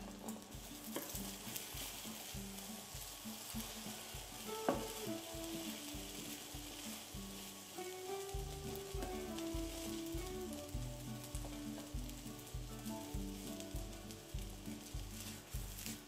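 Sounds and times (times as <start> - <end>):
background music plucked notes: 0.0 - 16.0
omelette sizzling in a frying pan: 0.0 - 16.0
wooden spatula in a pan: 0.0 - 16.0.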